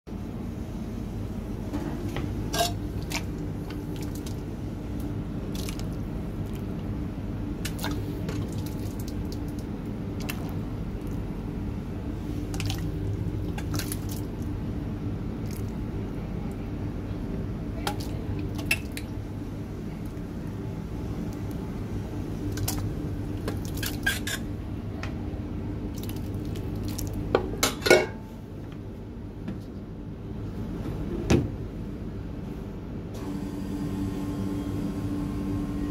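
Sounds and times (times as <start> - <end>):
low machine hum: 0.1 - 35.9.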